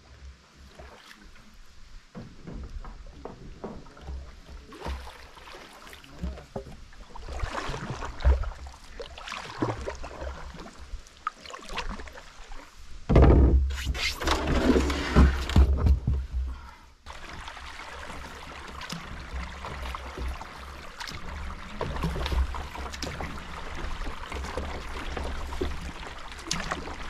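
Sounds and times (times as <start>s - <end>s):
paddle splashes and drips: 0.0s - 27.0s
paddle knocking on hull: 2.1s - 10.6s, 13.0s - 27.0s.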